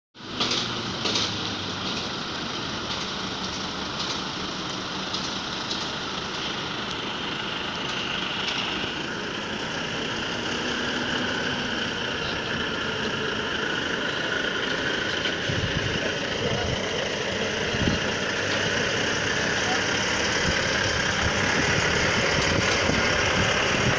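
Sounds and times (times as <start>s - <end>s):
truck diesel engine running: 0.2s - 23.9s.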